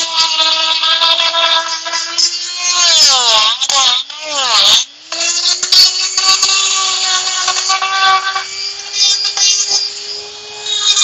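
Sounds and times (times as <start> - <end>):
die grinder high whine: 0.0 - 11.0.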